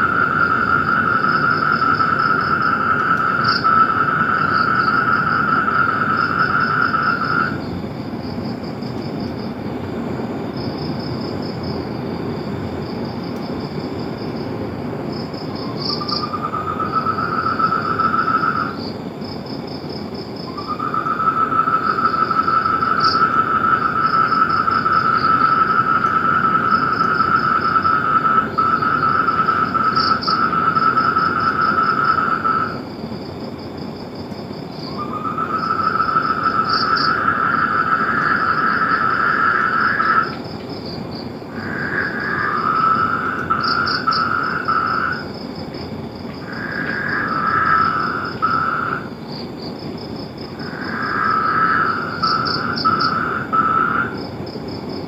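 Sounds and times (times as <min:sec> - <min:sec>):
frogs trilling: 0:00.0 - 0:14.5, 0:15.1 - 0:55.0.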